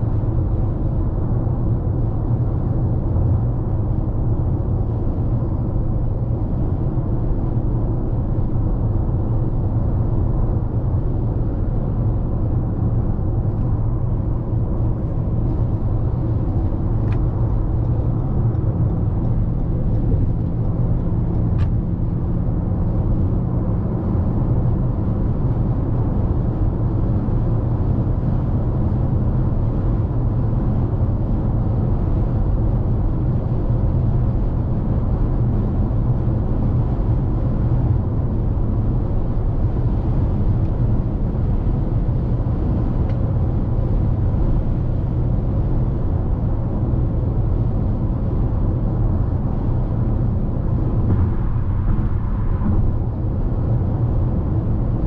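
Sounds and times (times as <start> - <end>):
car engine hum: 0.0 - 55.0
faint low drone: 0.0 - 55.0
road and tyre noise: 0.0 - 55.0.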